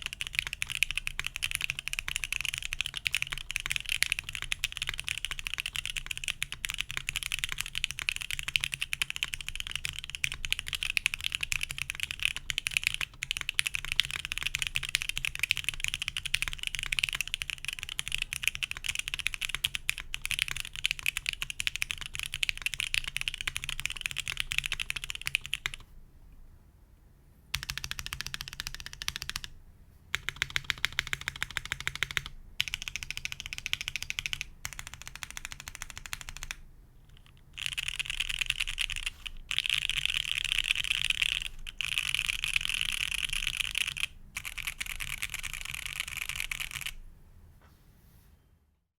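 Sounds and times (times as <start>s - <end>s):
fast mechanical keyboard typing: 0.0s - 25.9s, 27.5s - 29.5s, 30.1s - 47.0s.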